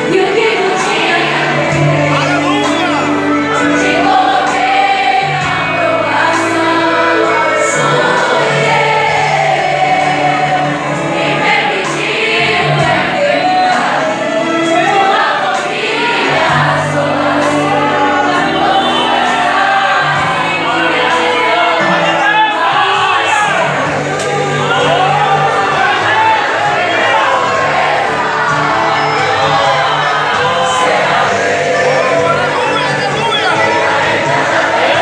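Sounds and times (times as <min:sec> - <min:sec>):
choir singing worship song: 0:00.0 - 0:35.0
instrumental accompaniment: 0:00.0 - 0:35.0.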